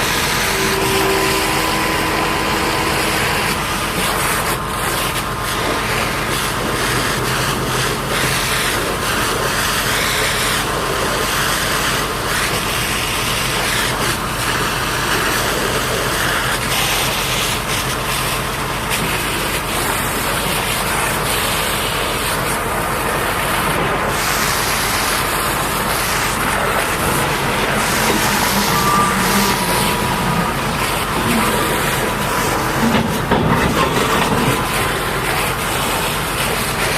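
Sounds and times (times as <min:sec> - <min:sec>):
diesel engine running: 0:00.0 - 0:36.9
high-pressure water spray hiss: 0:00.0 - 0:36.9.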